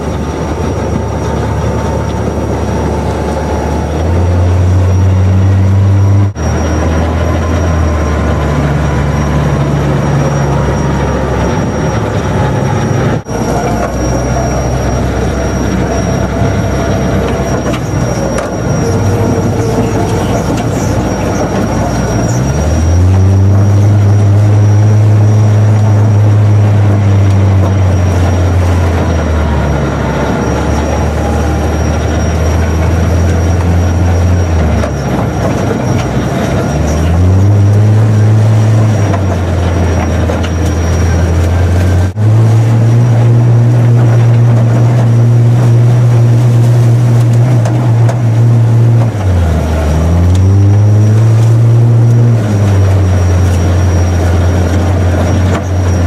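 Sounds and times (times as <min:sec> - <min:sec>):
off-road vehicle engine: 0:00.0 - 0:56.0
vehicle jolting and rattling: 0:00.0 - 0:56.0.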